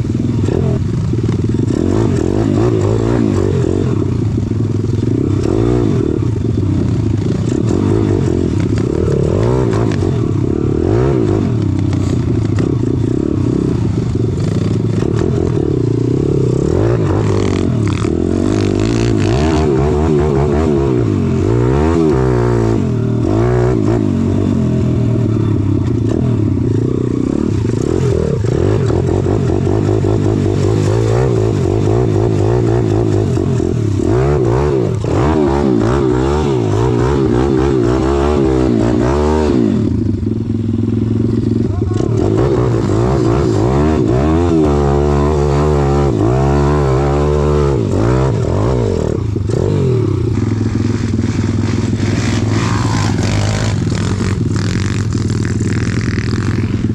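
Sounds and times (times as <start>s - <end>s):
small motorbike engine revving: 0.0s - 56.9s.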